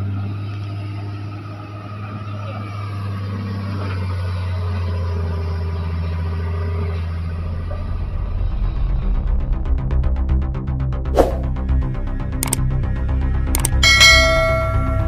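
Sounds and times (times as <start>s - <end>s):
excavator diesel engine droning: 0.0s - 9.6s, 11.7s - 15.0s.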